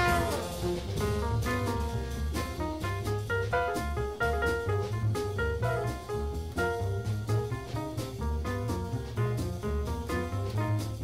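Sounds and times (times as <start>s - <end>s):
instrumental jazz with brass and drums: 0.0s - 11.0s.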